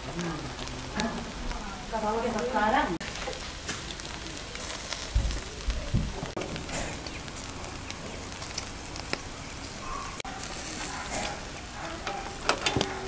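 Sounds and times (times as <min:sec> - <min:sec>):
food sizzling over a fire: 0:00.0 - 0:13.0
small crackles: 0:00.0 - 0:13.0.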